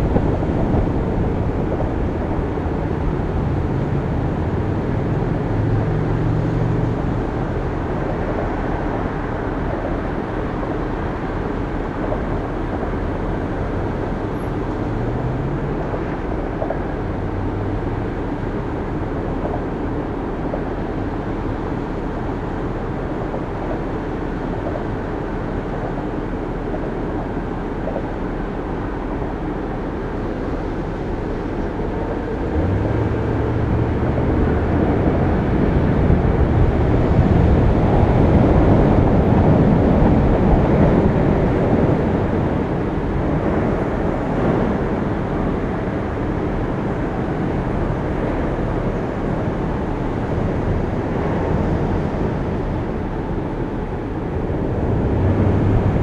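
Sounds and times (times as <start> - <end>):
car engine rumble: 0.0 - 56.0
road noise: 0.0 - 56.0
wind noise: 0.0 - 56.0.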